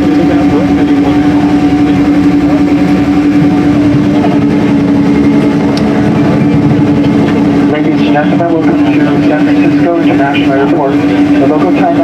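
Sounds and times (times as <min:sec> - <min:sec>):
aircraft engines rumbling: 0:00.0 - 0:12.0
constant droning hum: 0:00.0 - 0:12.0.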